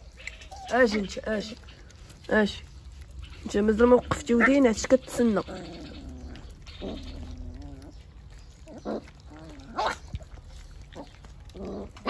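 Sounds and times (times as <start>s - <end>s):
puppies yelping and whimpering: 0.0s - 2.1s, 3.0s - 12.0s.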